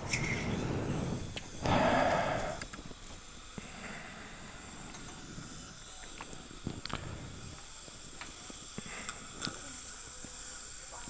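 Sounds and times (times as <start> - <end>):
dental equipment hiss: 0.0 - 11.0.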